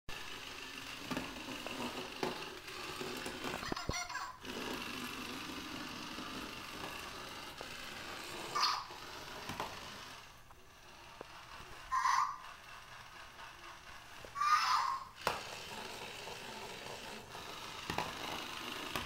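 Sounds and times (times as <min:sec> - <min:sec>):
toy motor whirring: 0:00.1 - 0:19.0.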